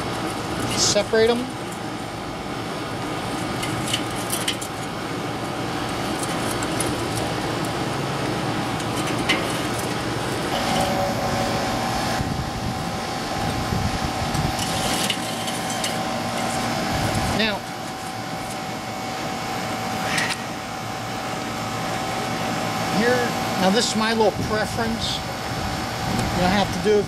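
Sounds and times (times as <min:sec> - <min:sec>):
steady background noise: 0:00.0 - 0:27.0.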